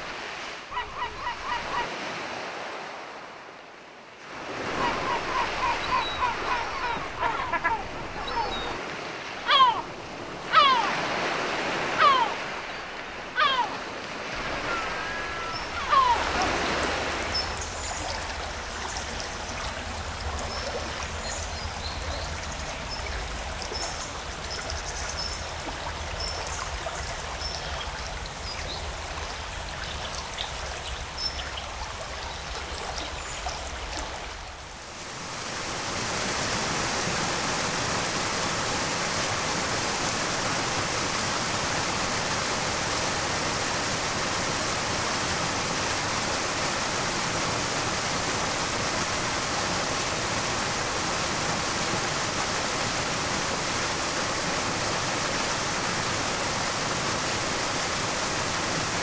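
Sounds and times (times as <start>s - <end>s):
water rushing loudly: 0.0s - 3.6s, 4.2s - 59.0s
stream rushing: 0.0s - 59.0s.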